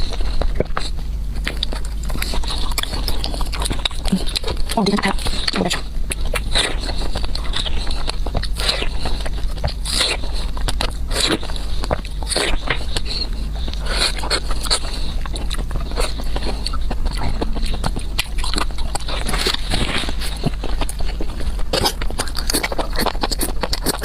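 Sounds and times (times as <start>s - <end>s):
chewing and crunching: 0.0s - 24.0s
low hum: 0.0s - 24.0s.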